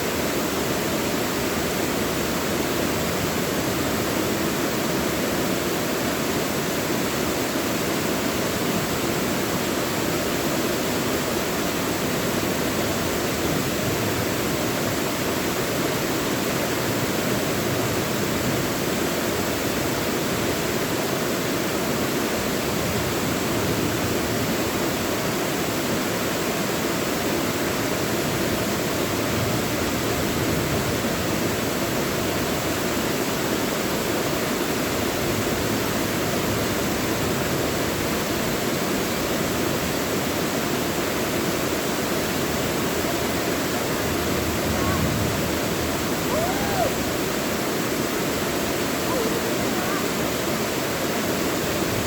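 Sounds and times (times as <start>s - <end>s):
stream rushing over rocks: 0.0s - 52.0s.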